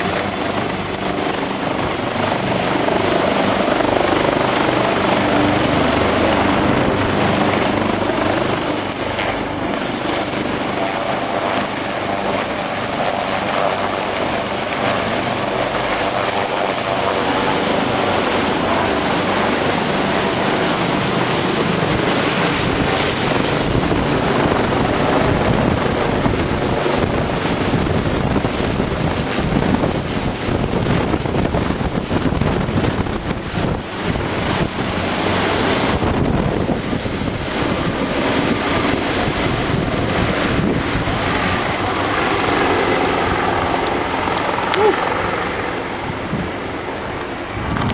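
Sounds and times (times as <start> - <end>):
helicopter rotor noise: 0.0 - 47.9
high turbine whine: 0.0 - 47.9.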